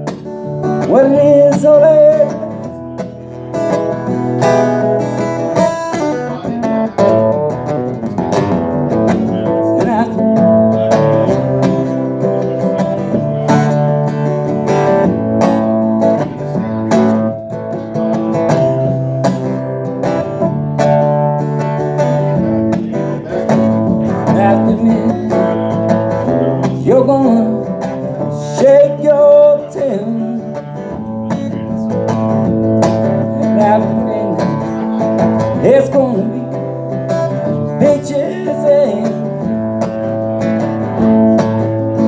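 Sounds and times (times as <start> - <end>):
electric guitar playing: 0.0 - 42.0
person singing: 0.0 - 42.0
rhythmic guitar strumming: 0.0 - 42.0.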